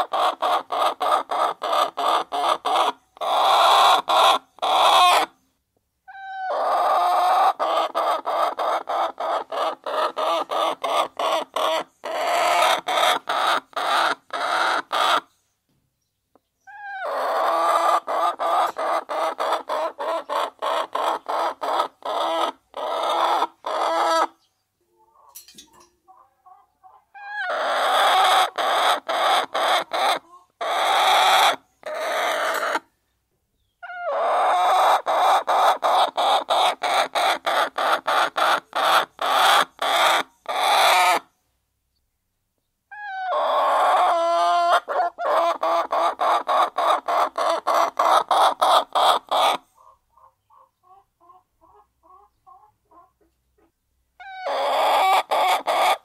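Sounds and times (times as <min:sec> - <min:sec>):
hens clucking: 0:00.0 - 0:05.4, 0:06.1 - 0:15.3, 0:16.4 - 0:32.9, 0:33.8 - 0:41.3, 0:42.9 - 0:56.0.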